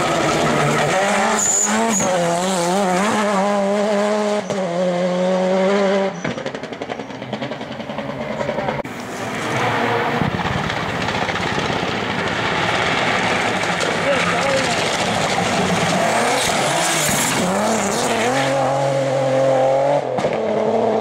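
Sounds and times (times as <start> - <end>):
approaching rally car engine: 0.0 - 21.0
rally car engine at high revs: 0.0 - 21.0.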